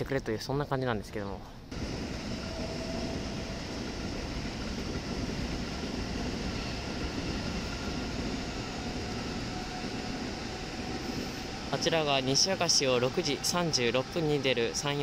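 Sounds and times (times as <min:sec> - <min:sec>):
train rumbling past: 0:01.7 - 0:15.0.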